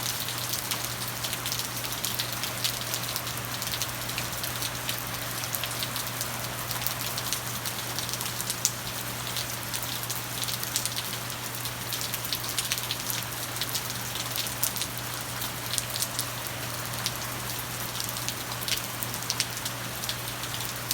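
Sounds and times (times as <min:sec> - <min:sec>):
raindrops ticking on a surface: 0:00.0 - 0:20.9.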